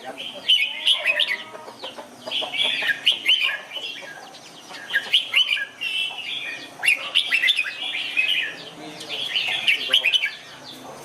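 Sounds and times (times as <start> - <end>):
bulbuls singing: 0.0 - 11.0.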